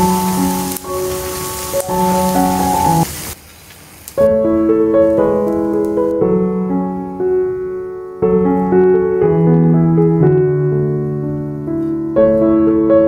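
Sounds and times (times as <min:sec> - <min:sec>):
solo piano melody: 0:00.0 - 0:03.4, 0:04.2 - 0:13.0.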